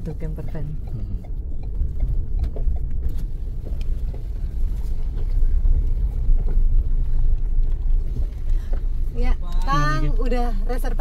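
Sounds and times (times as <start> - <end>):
car engine rumble from inside cabin: 0.0 - 11.0.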